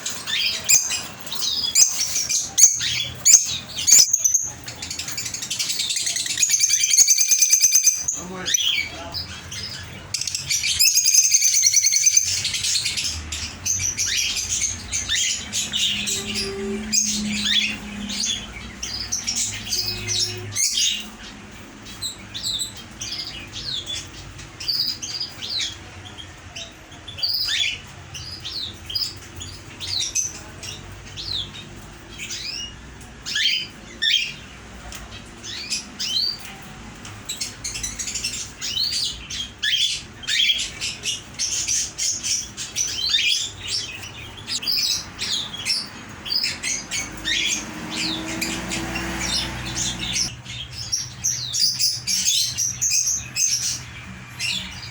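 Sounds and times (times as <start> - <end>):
caged birds chirping: 0.0 - 54.9.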